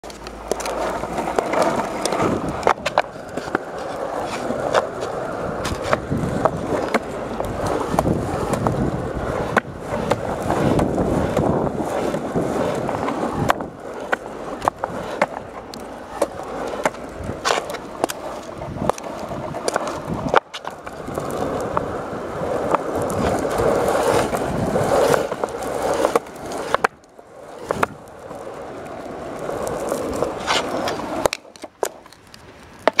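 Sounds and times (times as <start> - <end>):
skateboard wheels rolling on concrete: 0.0 - 33.0
wheels clicking over pavement cracks: 0.0 - 33.0.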